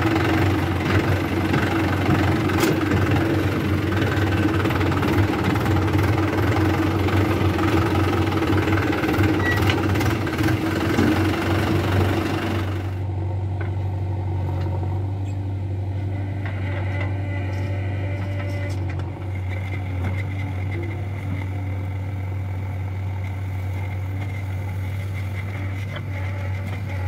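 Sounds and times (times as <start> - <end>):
engines idling: 0.0 - 27.0
tractor diesel engine running: 0.0 - 27.0.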